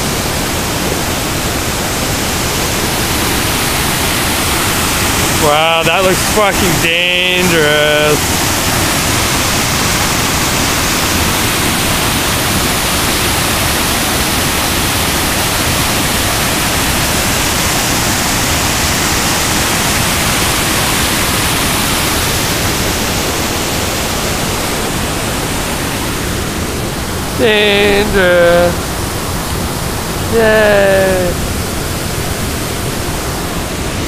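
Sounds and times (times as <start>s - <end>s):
waterfall rushing over rock: 0.0s - 34.0s.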